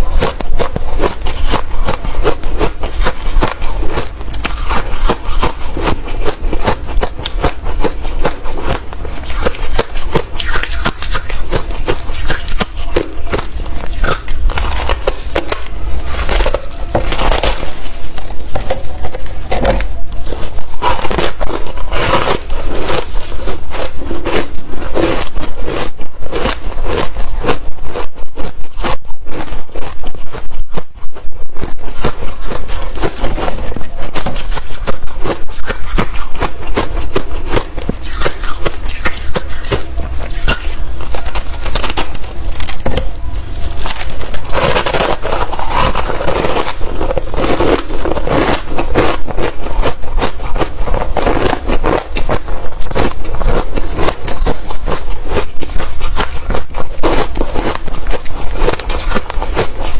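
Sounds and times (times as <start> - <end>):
chewing crushed ice: 0.0 - 59.9.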